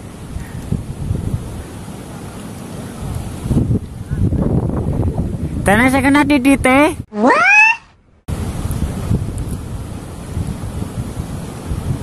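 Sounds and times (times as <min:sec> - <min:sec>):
wind buffeting microphone: 0:00.0 - 0:07.1, 0:08.3 - 0:12.0.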